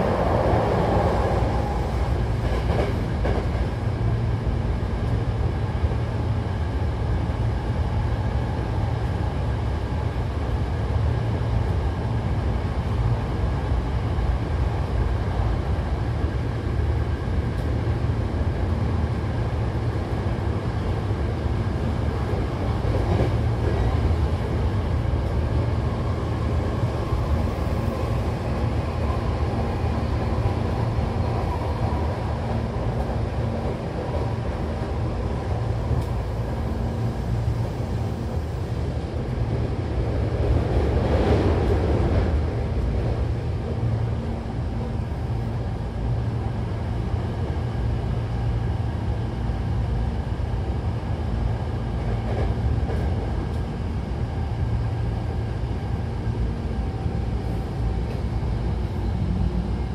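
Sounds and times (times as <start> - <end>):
train low rumble: 0.0 - 59.9.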